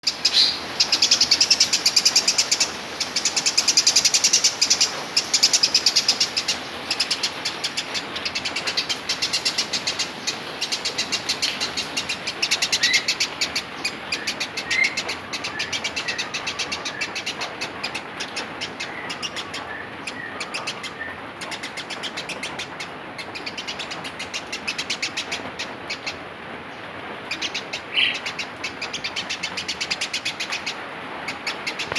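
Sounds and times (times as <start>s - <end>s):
sparrow chirping: 0.0s - 26.2s, 26.8s - 31.9s.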